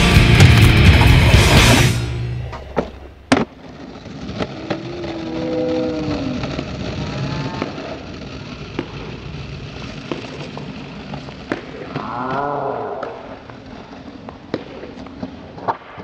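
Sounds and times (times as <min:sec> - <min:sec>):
skateboard wheels rolling on concrete: 0:00.0 - 0:16.0
skateboard clicks and knocks: 0:02.4 - 0:16.0.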